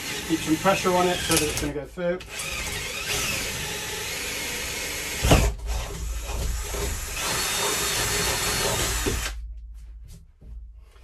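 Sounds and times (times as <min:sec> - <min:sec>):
cordless drill running under load: 0:00.0 - 0:09.4.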